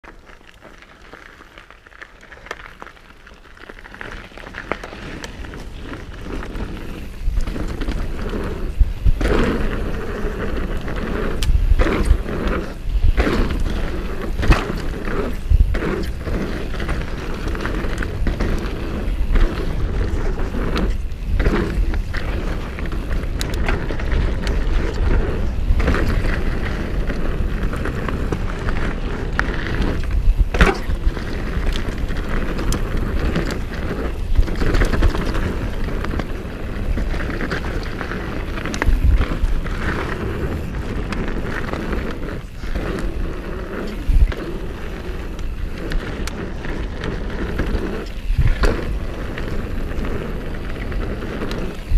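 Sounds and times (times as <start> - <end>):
wind and tyres on dirt: 0.0 - 51.9
bike clattering over bumps: 0.1 - 51.9.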